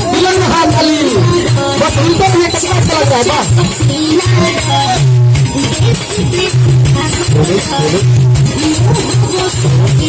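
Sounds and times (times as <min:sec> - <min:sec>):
music with heavy bass line: 0:00.0 - 0:10.0.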